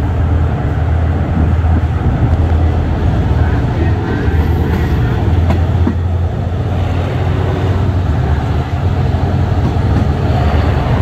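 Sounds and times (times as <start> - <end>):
diesel locomotive engine drone: 0.0 - 11.0
wheel-on-rail noise: 0.0 - 11.0.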